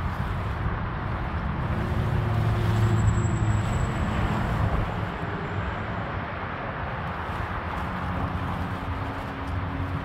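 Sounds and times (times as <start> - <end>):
engine rumble: 0.0 - 10.0.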